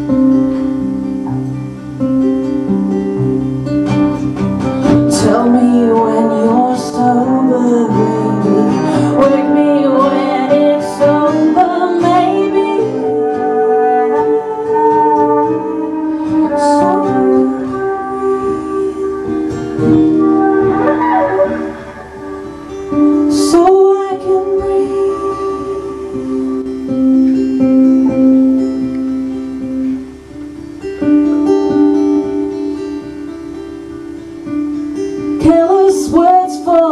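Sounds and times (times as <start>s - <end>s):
acoustic rock band playing: 0.0s - 36.9s.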